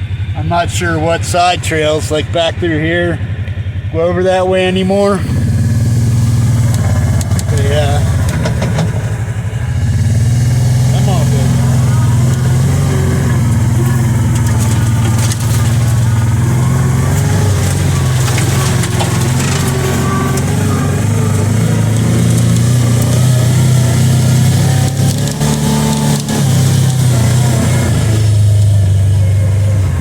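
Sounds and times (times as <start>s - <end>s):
engine running under throttle: 0.0s - 30.0s.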